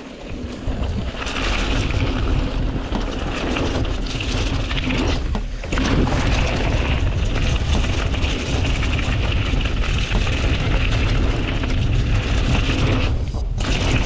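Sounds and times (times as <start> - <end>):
bike rattling on trail: 0.0 - 14.0
wind rushing over microphone: 0.0 - 14.0.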